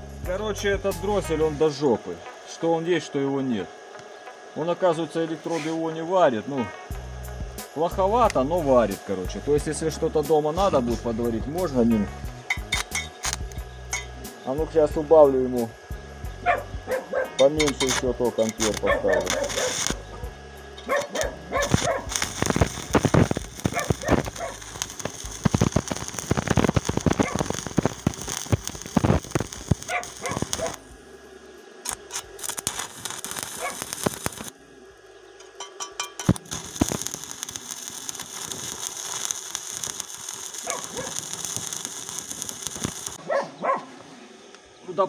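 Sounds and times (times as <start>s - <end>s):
welding arc crackling: 0.0s - 34.8s, 35.4s - 43.3s.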